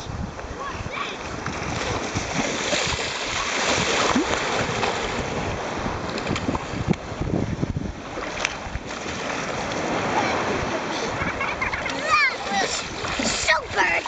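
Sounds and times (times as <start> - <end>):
wind buffeting microphone: 0.0 - 14.0
small waves breaking: 0.4 - 14.0
sharp water splashes: 1.1 - 7.0, 8.1 - 14.0.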